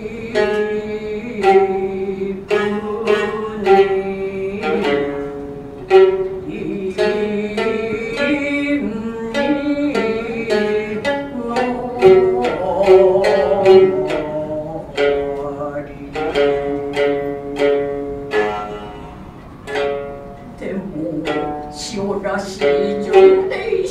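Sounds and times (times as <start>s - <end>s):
shamisen plucked notes: 0.0s - 23.9s.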